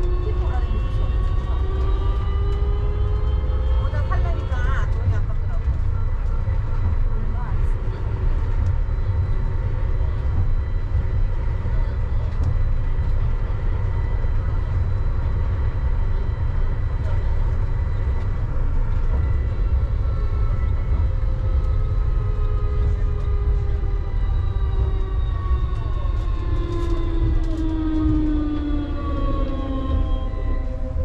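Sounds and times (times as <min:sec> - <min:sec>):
traction motor whine: 0:00.0 - 0:31.0
train running rumble: 0:00.0 - 0:31.0.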